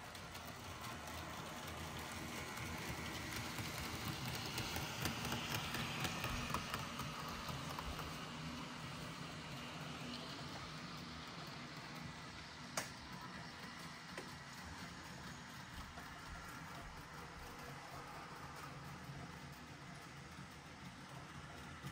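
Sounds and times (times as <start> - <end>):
model train wheels rattling: 0.0 - 21.9.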